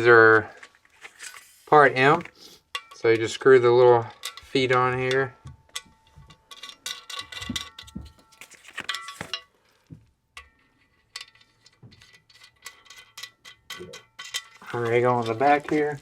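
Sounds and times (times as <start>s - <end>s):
metal parts clinking: 0.3s - 9.5s, 10.4s - 16.0s.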